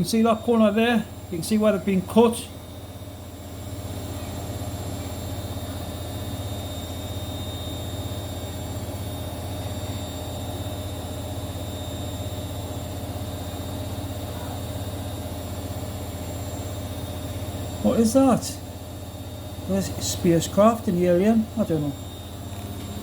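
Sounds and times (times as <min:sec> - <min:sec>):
high-pitched whine: 0:00.0 - 0:23.0
low mechanical hum: 0:00.0 - 0:23.0.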